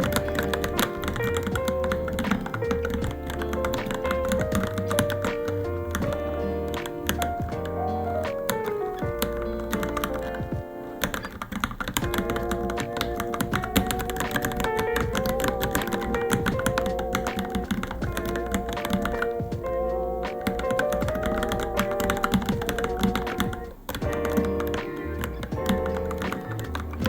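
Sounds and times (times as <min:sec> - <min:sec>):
background music with wavering melody: 0:00.0 - 0:27.0
rapid keyboard typing: 0:00.0 - 0:27.0.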